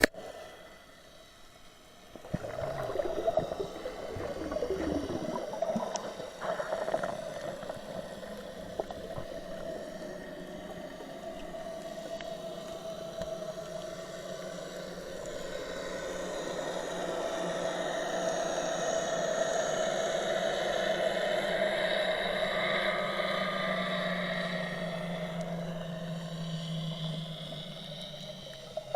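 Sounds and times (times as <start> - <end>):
boat engine droning: 0.0 - 28.9.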